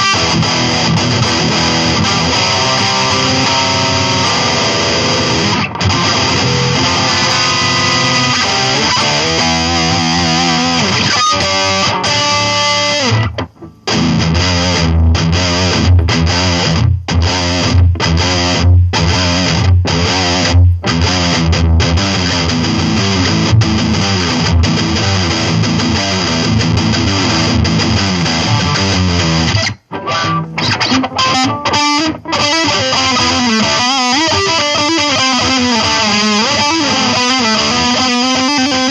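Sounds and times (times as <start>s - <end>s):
distorted electric guitar: 0.0s - 38.9s.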